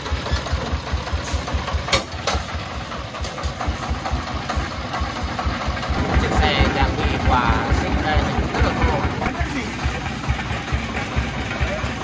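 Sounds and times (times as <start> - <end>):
diesel engine idling chug: 0.0 - 12.0.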